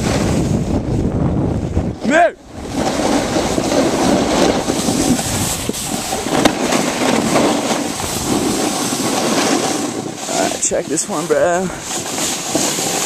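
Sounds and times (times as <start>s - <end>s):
snowboard scraping over snow: 0.0s - 13.0s.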